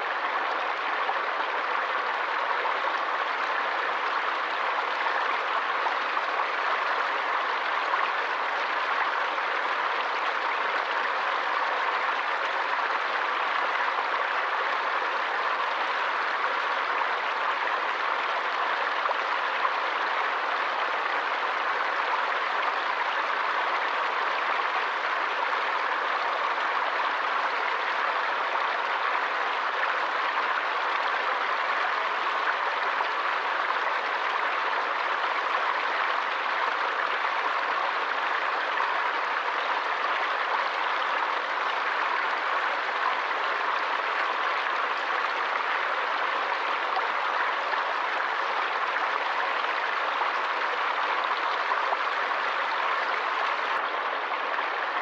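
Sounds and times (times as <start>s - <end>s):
stream running water: 0.0s - 55.0s.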